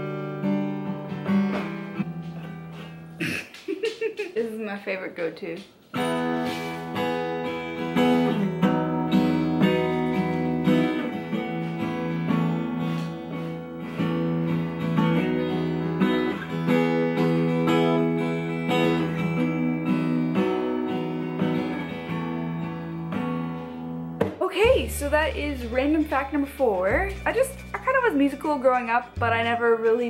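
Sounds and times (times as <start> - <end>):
acoustic guitar picked chords: 0.0 - 3.7, 5.9 - 30.0.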